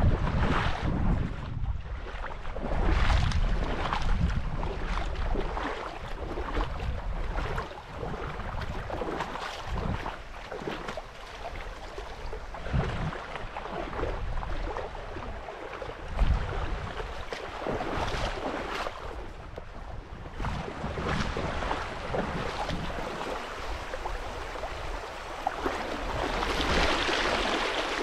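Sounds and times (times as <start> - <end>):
water rushing and splashing: 0.0 - 28.0
wind buffeting microphone: 0.0 - 28.0.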